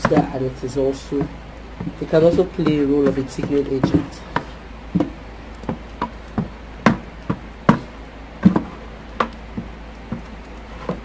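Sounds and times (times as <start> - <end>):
stick knocking plastic bucket: 0.0 - 0.5, 1.1 - 11.0.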